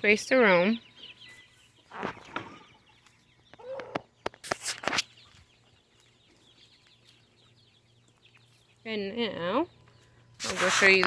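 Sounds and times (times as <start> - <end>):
young chickens clucking: 0.0 - 11.0.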